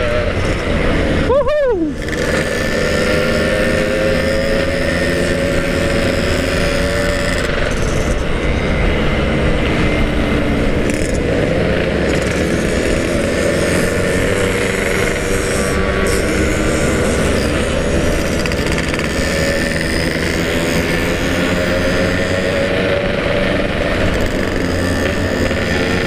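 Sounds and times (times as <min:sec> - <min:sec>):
two-stroke motorcycle engines: 0:00.0 - 0:26.0
wind rushing over microphone: 0:00.0 - 0:26.0.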